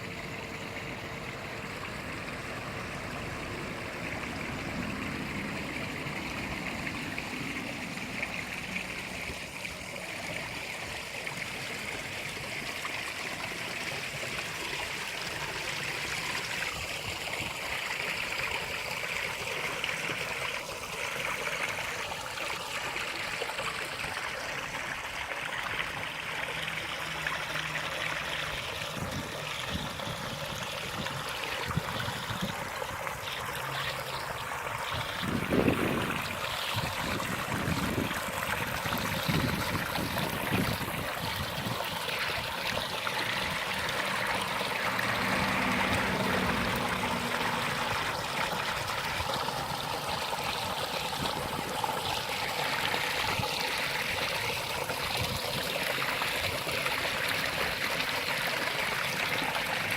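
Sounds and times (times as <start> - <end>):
water trickling into pond: 0.0 - 59.9.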